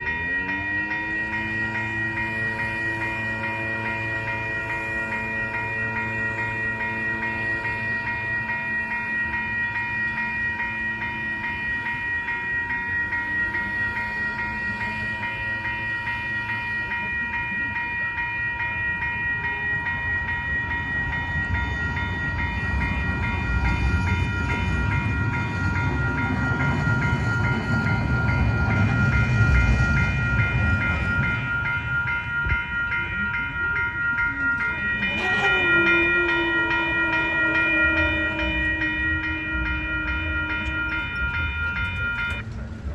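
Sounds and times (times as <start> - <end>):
crossing warning bells ringing: 0.0 - 42.9
light rail train rumbling: 0.0 - 42.9.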